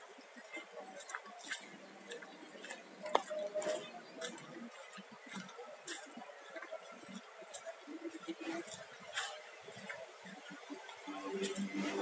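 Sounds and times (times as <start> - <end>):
footsteps on brick paving: 0.0 - 12.0.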